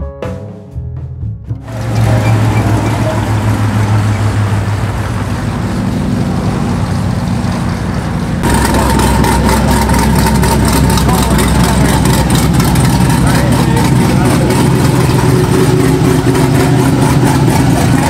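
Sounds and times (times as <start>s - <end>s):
car engine running: 1.5s - 18.0s.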